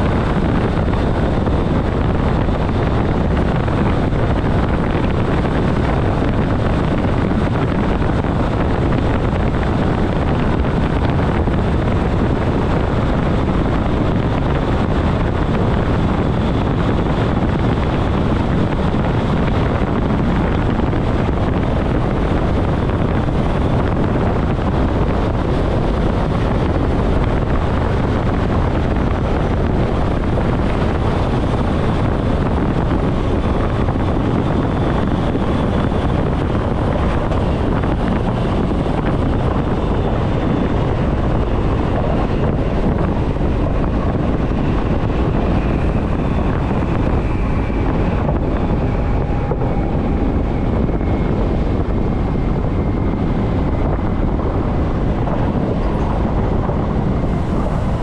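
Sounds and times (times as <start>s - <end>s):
rush of air: 0.0s - 58.0s
wheels rumbling on rail: 0.0s - 58.0s.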